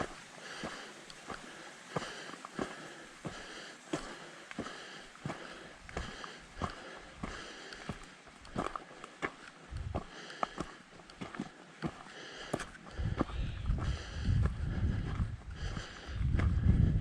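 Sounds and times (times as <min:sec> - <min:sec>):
footsteps on a trail: 0:00.0 - 0:17.0
person breathing: 0:00.0 - 0:17.0.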